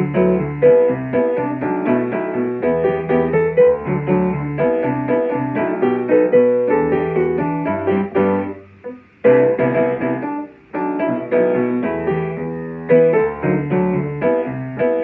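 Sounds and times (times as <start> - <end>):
upbeat piano tune: 0.0 - 15.0.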